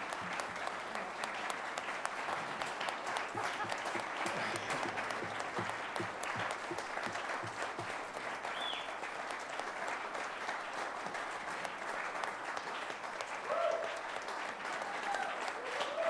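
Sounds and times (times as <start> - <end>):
congregation applauding: 0.0 - 16.0.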